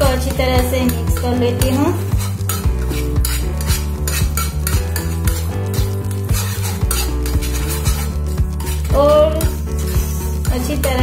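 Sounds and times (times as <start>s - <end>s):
steel spoon scraping a pan: 0.0s - 11.0s.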